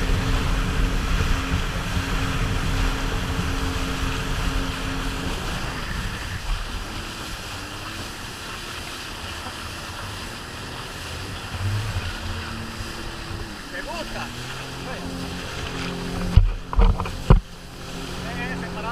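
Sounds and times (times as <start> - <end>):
jet ski engine humming: 0.0 - 18.9
water noise: 0.0 - 18.9
wind buffeting microphone: 0.0 - 18.9.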